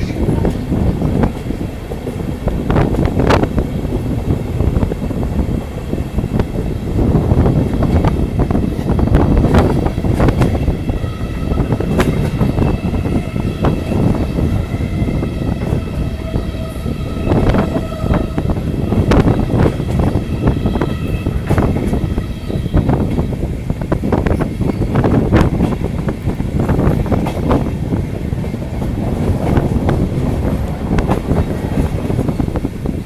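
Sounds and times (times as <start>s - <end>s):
train wheels rumbling on rails: 0.0s - 33.0s
wind: 0.0s - 33.0s.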